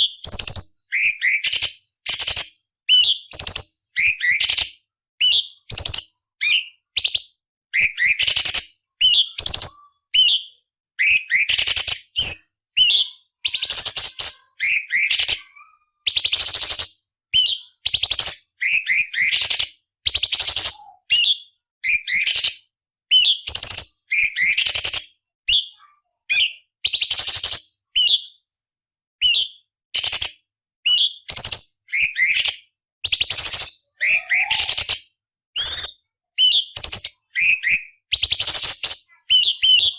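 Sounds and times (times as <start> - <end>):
bird singing whistled notes: 0.0 - 28.6, 29.2 - 35.0, 35.6 - 39.9.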